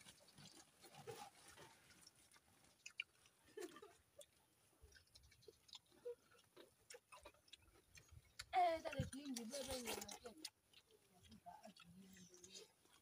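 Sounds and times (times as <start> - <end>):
people chewing: 0.0 - 13.0.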